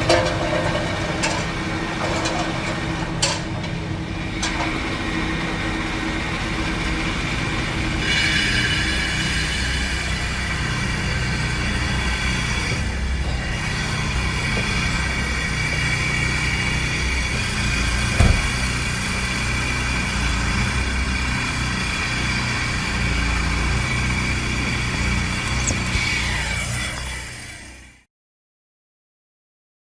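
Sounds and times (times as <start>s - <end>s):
constant whine: 0.0s - 28.0s
van engine and road rumble: 0.0s - 28.0s.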